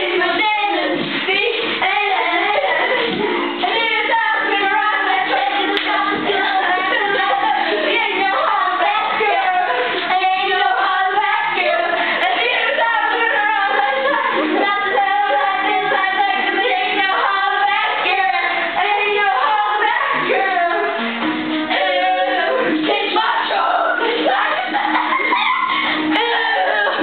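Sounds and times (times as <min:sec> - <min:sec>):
background music: 0:00.0 - 0:27.0
girls singing into a microphone: 0:00.0 - 0:27.0.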